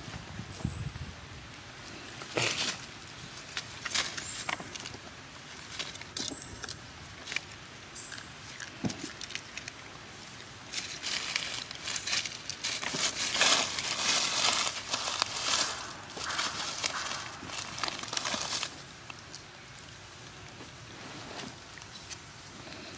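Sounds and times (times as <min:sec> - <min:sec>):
dry leaves crackling and rustling: 0:01.8 - 0:22.9.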